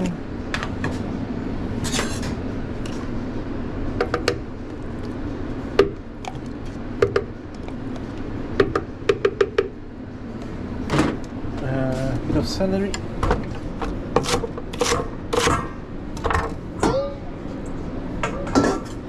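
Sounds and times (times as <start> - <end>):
kitchen hum: 0.0 - 19.0.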